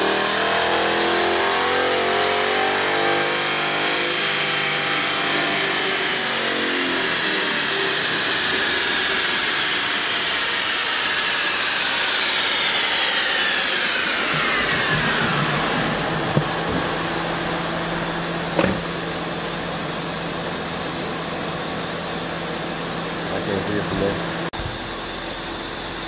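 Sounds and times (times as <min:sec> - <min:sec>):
drivetrain and rollers whine: 0:00.0 - 0:26.0.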